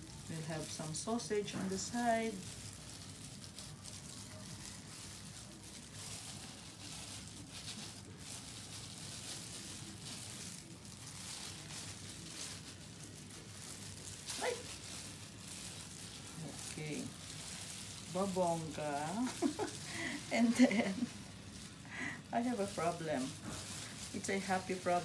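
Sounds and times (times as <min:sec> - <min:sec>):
soft handling noises: 0:00.0 - 0:25.0.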